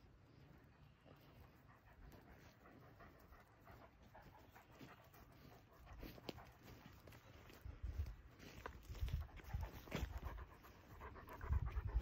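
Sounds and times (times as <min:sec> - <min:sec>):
paws on dry pine needles: 0:00.0 - 0:12.0
puppy panting: 0:00.5 - 0:07.8, 0:08.4 - 0:12.0.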